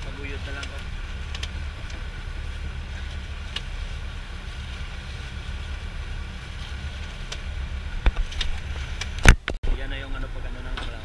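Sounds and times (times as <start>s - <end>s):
sea noise: 0.0s - 9.6s
wind noise: 0.0s - 10.2s
boat engine droning: 0.0s - 11.0s.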